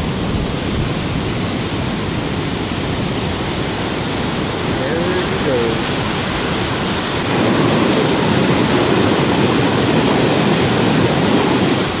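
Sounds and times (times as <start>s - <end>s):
rush of flowing water: 0.0s - 12.0s.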